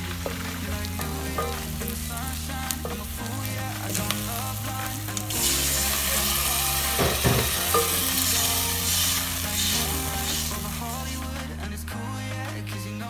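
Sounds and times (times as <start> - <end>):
food sizzling in hot oil: 0.0 - 11.2
background music: 0.0 - 13.0.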